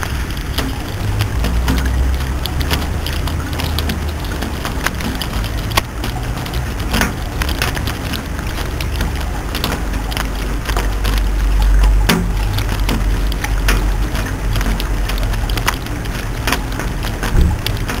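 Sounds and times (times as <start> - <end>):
continuous low rumble: 0.0 - 18.0
sharp raindrop impacts: 0.0 - 18.0
steady rain: 0.0 - 18.0.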